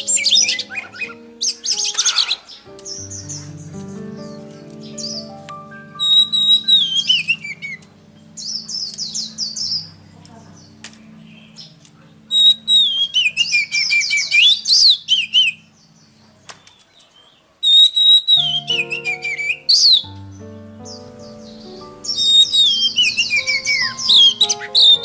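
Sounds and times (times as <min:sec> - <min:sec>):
bird song whistles and trills: 0:00.0 - 0:10.0, 0:10.6 - 0:25.0
background music low notes: 0:00.0 - 0:16.4, 0:18.0 - 0:25.0.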